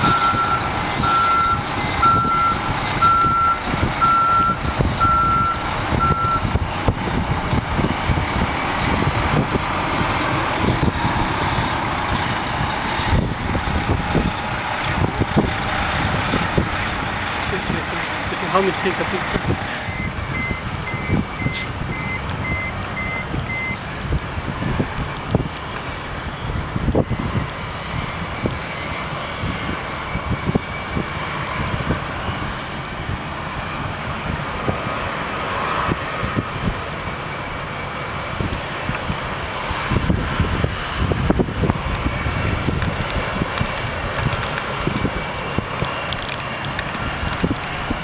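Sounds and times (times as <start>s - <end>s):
jet engines idling: 0.0s - 48.0s
wind buffeting microphone: 0.0s - 48.0s.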